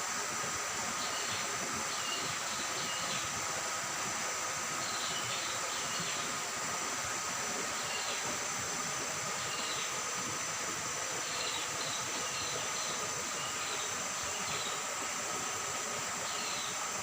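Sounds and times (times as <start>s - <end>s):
high insect drone: 0.1s - 17.0s.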